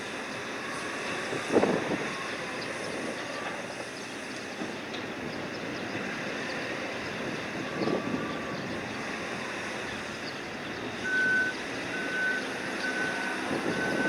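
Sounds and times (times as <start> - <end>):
machinery noise: 0.0 - 14.0.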